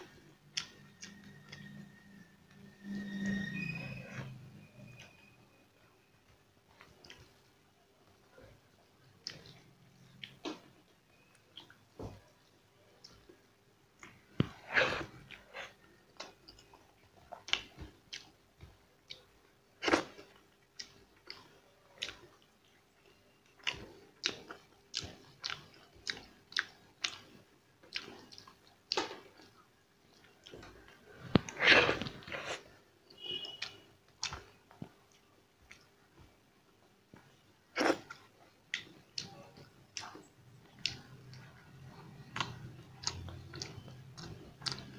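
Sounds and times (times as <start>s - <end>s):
person chewing and smacking: 0.0s - 1.8s, 6.7s - 7.4s, 9.2s - 13.4s, 14.0s - 36.4s, 37.0s - 44.9s.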